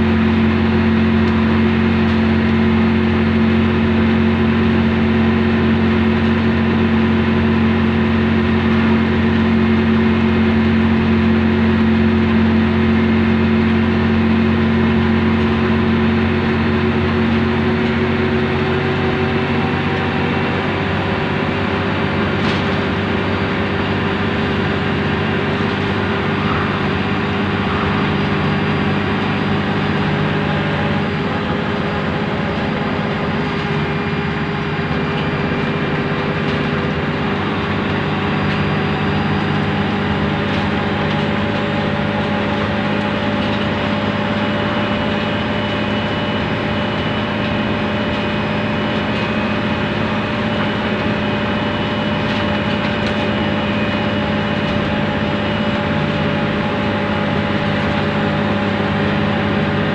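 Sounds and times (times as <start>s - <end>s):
bus diesel engine running: 0.0s - 59.9s
strong low hum: 0.0s - 59.9s.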